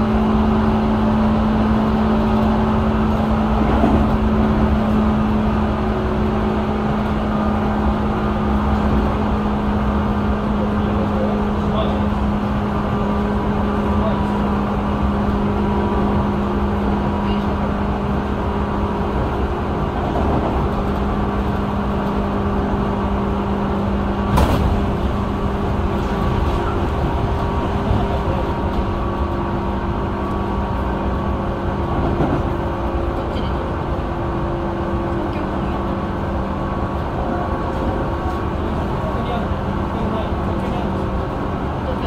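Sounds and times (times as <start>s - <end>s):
wheels rumbling on rail: 0.0s - 42.0s.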